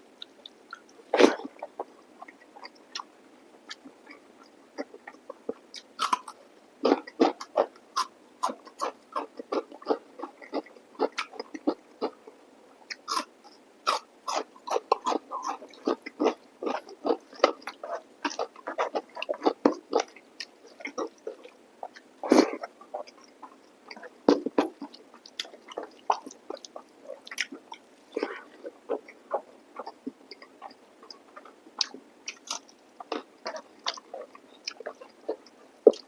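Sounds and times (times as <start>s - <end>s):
wet chewing and lip smacks: 0.2s - 36.0s.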